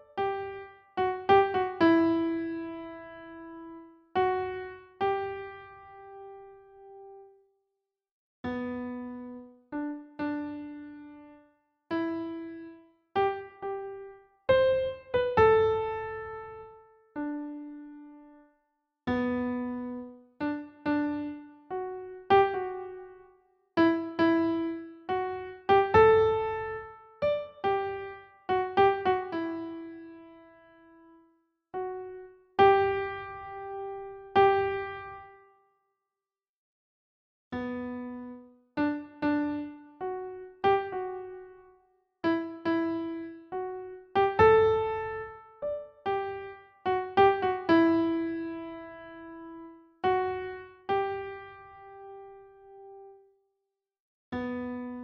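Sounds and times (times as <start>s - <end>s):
solo electric piano melody: 0.0s - 7.3s, 8.4s - 18.4s, 19.1s - 35.4s, 37.6s - 53.2s, 54.3s - 55.0s.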